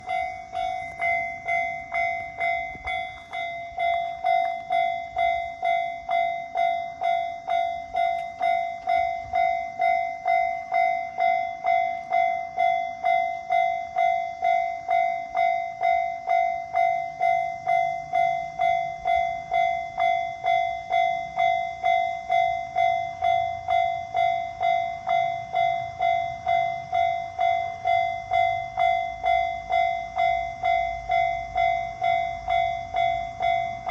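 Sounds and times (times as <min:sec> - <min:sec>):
level crossing bell ringing: 0:00.0 - 0:33.9.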